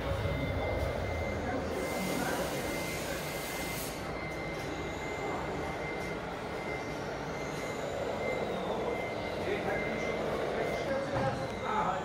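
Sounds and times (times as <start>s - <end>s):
constant high tone: 0.0s - 12.0s.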